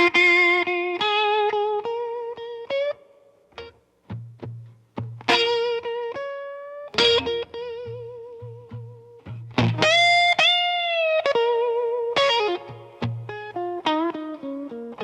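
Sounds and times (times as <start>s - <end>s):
blues electric guitar solo: 0.0s - 15.0s.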